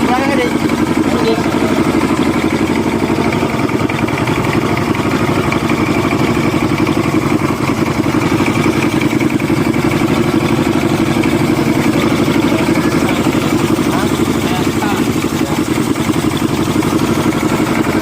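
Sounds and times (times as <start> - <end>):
outboard motor running steadily: 0.0 - 18.0.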